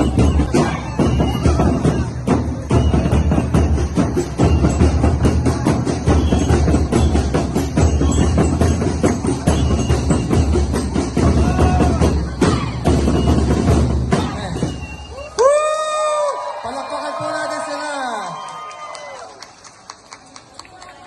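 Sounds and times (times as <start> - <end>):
drums pounding fast beat: 0.0 - 18.4
percussion-driven festival music: 0.0 - 21.0.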